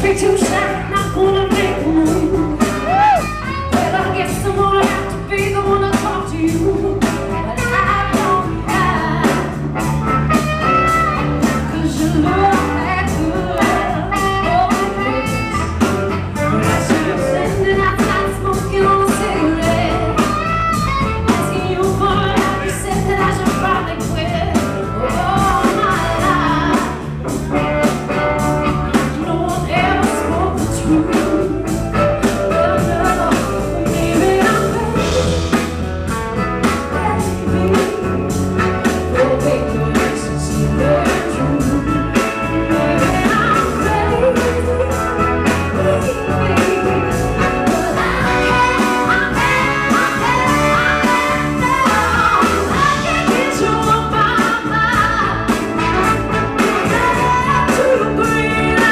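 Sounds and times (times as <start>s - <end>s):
woman singing: 0.0s - 35.9s, 36.6s - 58.9s
live soul band: 0.0s - 58.9s.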